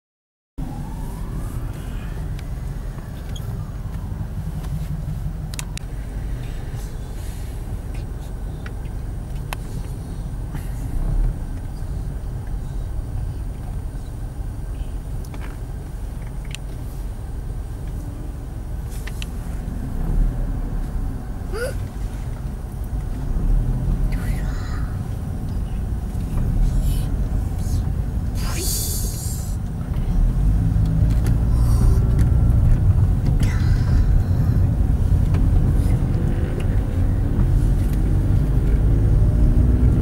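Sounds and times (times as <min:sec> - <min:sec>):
car engine and road noise: 0:00.6 - 0:40.0.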